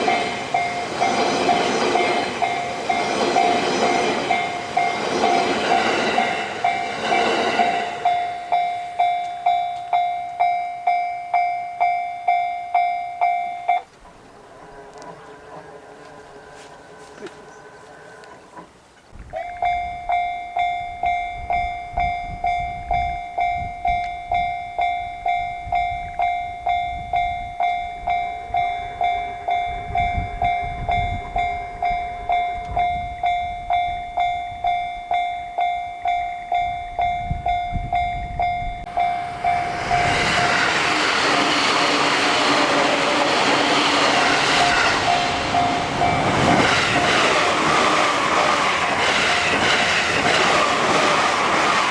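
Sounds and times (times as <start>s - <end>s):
level crossing warning bell: 0.0s - 18.3s, 19.4s - 51.9s
train passing: 0.0s - 51.9s.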